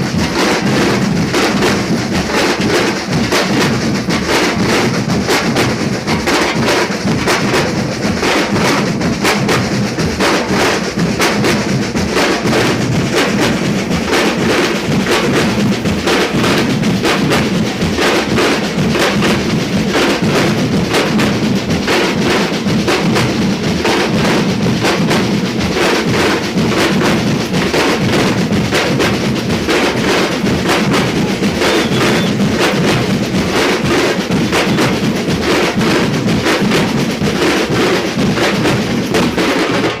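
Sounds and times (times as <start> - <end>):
deep bass drums: 0.0 - 40.0
drums playing fast rhythm: 0.0 - 40.0
snare-like drum strokes: 0.0 - 40.0.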